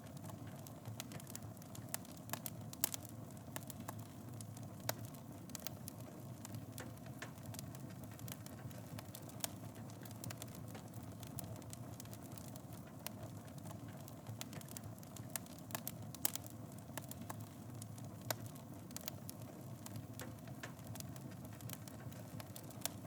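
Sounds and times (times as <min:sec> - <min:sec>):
fire popping and snapping: 0:00.0 - 0:23.0.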